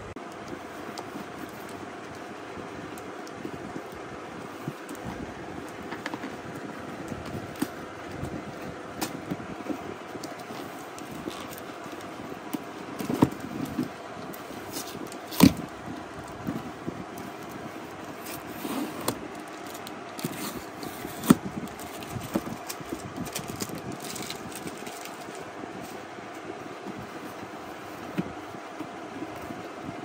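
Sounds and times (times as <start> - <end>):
cardboard scraping and crackling: 2.8 - 29.7.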